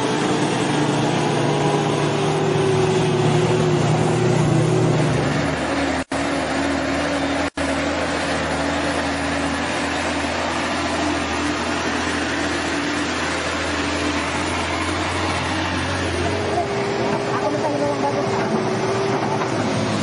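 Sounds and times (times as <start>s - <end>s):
diesel truck engine driving by: 0.0s - 20.0s.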